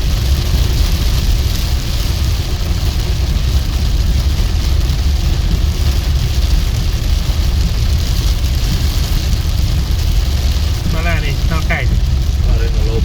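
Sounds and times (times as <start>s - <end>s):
engine and road rumble: 0.0s - 13.0s
hiss of rain and wet tyres: 0.0s - 13.0s.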